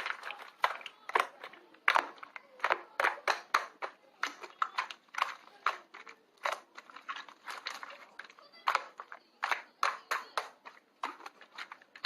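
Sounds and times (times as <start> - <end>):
slime squished by hand: 0.0 - 12.0.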